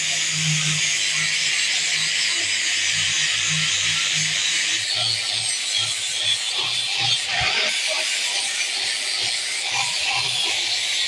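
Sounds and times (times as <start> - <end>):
angle grinder grinding steel: 0.0 - 11.0.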